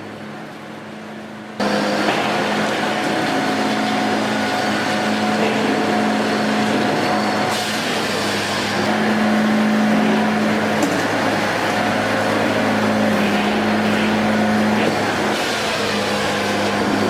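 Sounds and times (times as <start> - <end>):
machine engine humming: 1.6 - 17.0.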